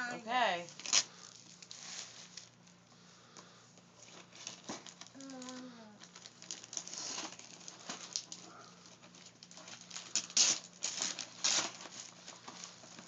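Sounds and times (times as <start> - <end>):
wrapping paper rustling and tearing: 0.5 - 2.8, 4.0 - 13.0.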